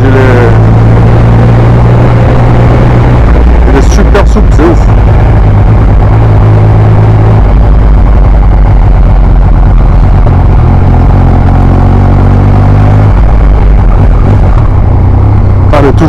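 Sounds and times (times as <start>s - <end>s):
wind rumble on microphone: 0.0s - 15.8s
motorcycle engine riding: 0.0s - 16.0s.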